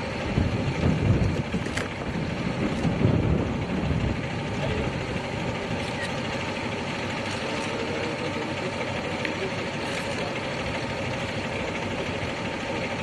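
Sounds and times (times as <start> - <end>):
constant rushing noise: 0.0 - 13.0
vehicle engine idling: 0.0 - 13.0.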